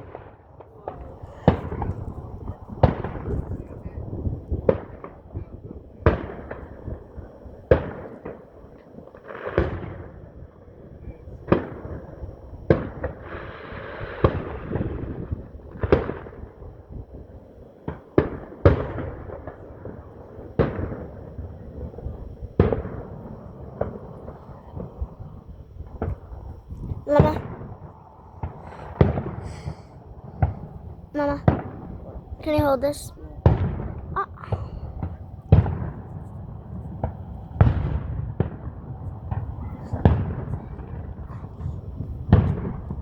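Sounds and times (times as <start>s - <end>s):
fireworks bangs: 0.0s - 17.3s, 17.9s - 43.0s
fireworks hiss and crackle: 0.0s - 43.0s.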